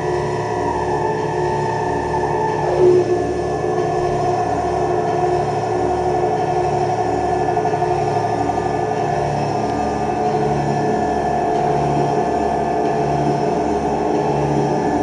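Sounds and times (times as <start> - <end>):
electronic drone music: 0.0 - 15.0.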